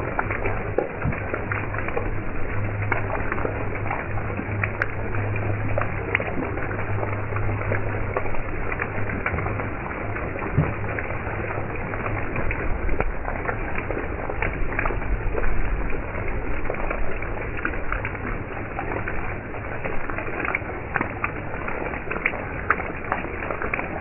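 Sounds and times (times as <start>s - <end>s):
heavy rain on road: 0.0s - 24.0s
low steady hum: 0.0s - 24.0s.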